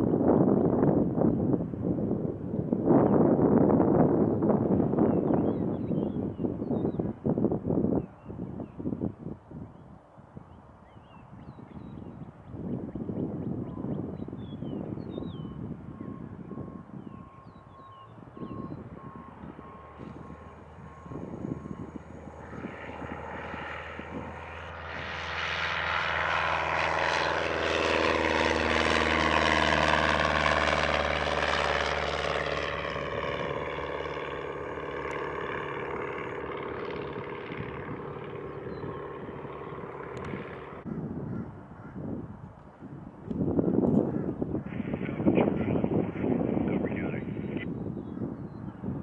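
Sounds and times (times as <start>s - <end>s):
propeller airplane passing by: 0.0s - 49.0s.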